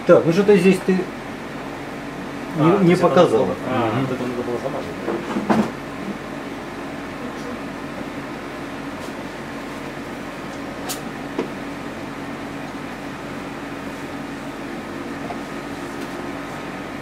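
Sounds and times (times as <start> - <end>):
mechanical room hum: 0.0 - 17.0.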